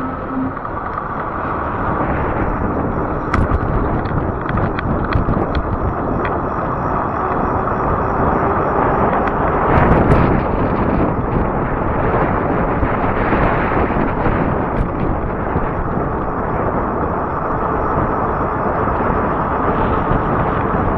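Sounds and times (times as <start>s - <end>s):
bike tires rolling on asphalt: 0.0s - 20.9s
wind rush on microphone: 0.0s - 20.9s.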